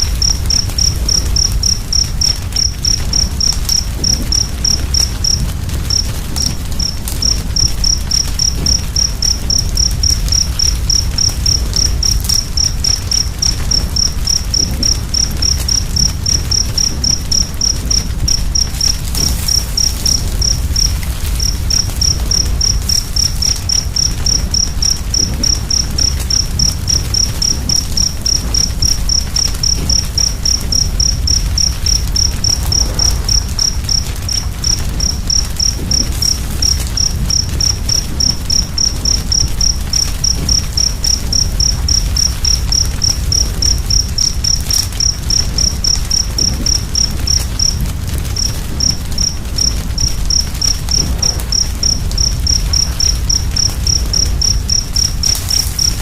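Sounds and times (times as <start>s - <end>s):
cricket chirping: 0.0s - 56.0s
wood fire crackling: 0.0s - 56.0s.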